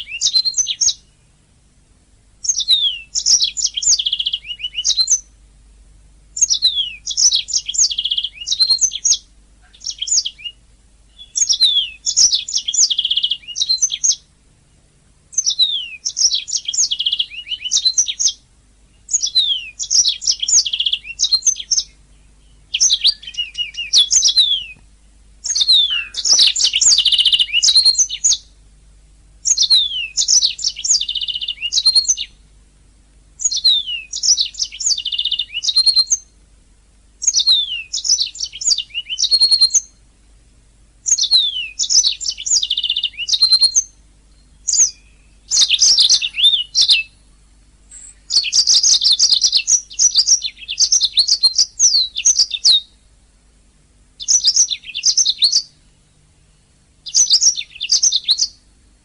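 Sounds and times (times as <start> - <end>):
canary singing trills: 0.0 - 1.4, 2.4 - 5.4, 6.3 - 14.4, 15.3 - 28.6, 29.3 - 32.6, 33.4 - 36.5, 37.1 - 40.1, 41.0 - 53.2, 54.0 - 58.8.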